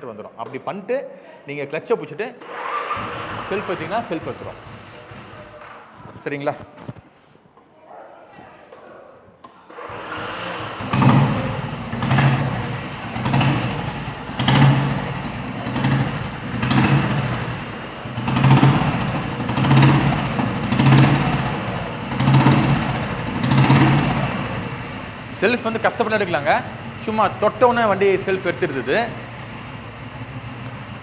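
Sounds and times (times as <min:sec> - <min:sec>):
electric starter cranking: 0:02.4 - 0:07.0, 0:09.7 - 0:31.0
motorcycle engine running: 0:02.9 - 0:07.0, 0:09.9 - 0:31.0.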